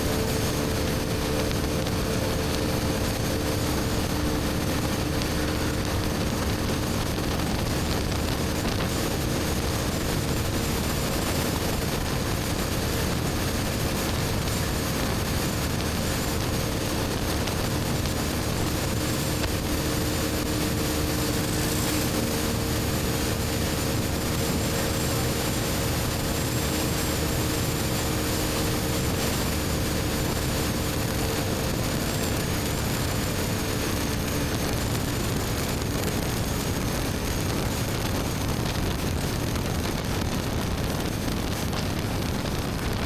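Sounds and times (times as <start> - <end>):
motorcycle engine cruising: 0.0 - 43.0
wind and road noise: 0.0 - 43.0.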